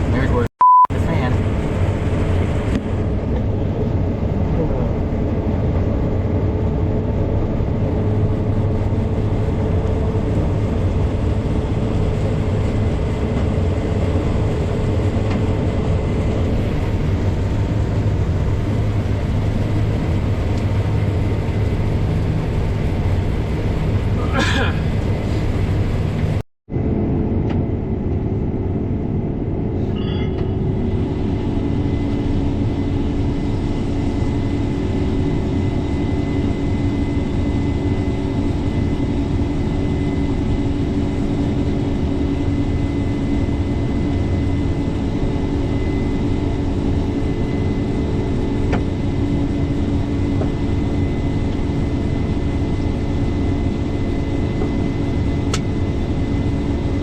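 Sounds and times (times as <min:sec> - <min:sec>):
farm machinery engine drone: 0:00.0 - 0:57.0
steady whine: 0:00.0 - 0:57.0.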